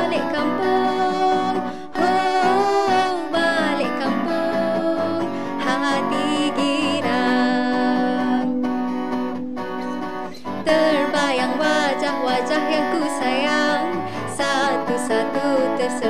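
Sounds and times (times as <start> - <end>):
woman singing a ballad: 0.0 - 9.4, 10.5 - 16.0
acoustic guitar: 0.0 - 16.0.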